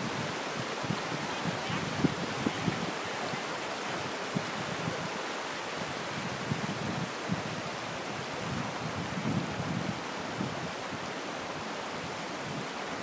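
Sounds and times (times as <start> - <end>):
wind bumps on microphone: 0.0 - 12.8
rushing mountain stream: 0.0 - 13.0.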